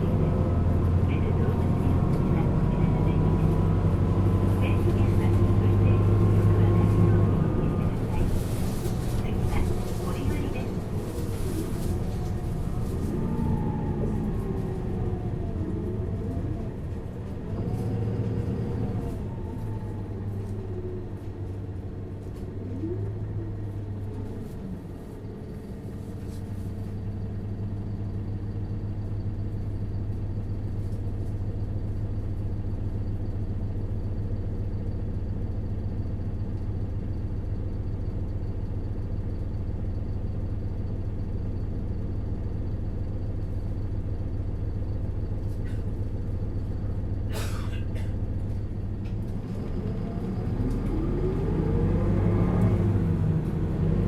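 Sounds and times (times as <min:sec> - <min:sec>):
bus diesel engine accelerating: 0:00.0 - 0:54.0.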